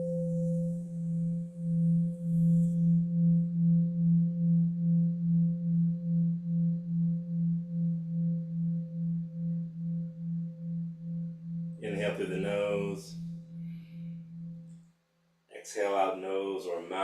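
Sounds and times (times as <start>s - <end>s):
singing bowl ringing: 0.0s - 14.8s.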